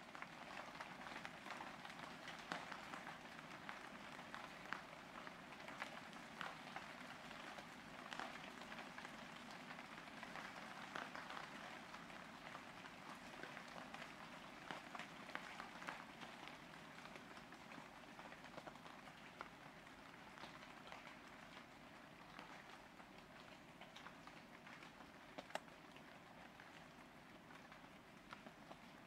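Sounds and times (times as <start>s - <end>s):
rain falling on a roof: 0.0s - 29.0s.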